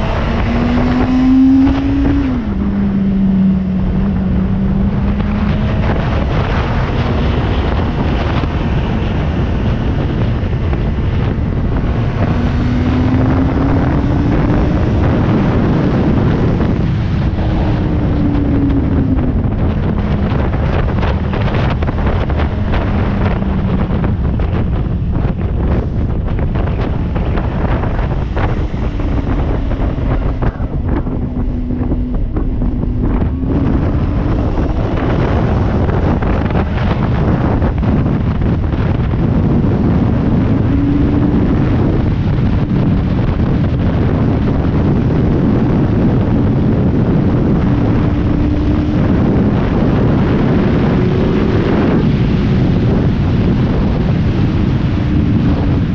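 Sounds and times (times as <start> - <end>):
motorcycle engine revving: 0.0 - 55.9
wind rushing over microphone: 0.0 - 55.9.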